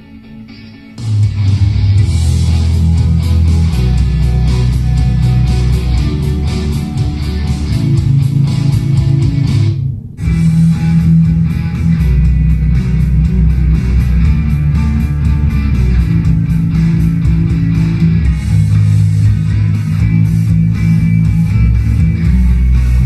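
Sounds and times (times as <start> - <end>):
guitar music with heavy bass: 0.0 - 23.0.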